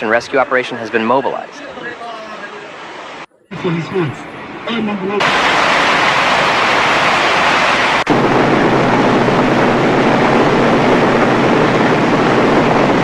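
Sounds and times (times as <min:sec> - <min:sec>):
floodwater rushing: 0:00.1 - 0:13.0.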